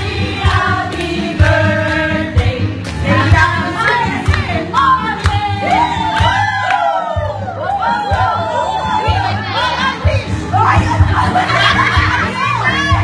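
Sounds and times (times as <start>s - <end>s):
group singing: 0.0s - 13.0s.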